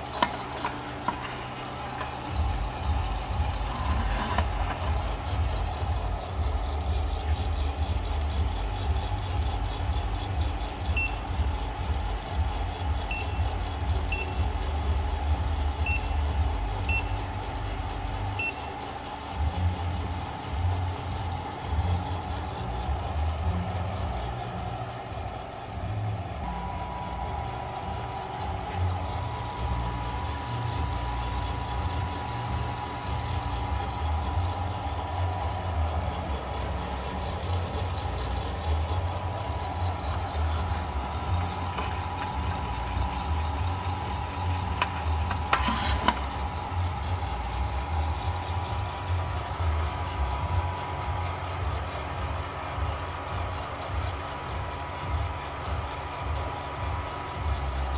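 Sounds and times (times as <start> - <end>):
coffee roaster motor hum: 0.0 - 57.9
steady mid-pitched tone: 0.0 - 57.9.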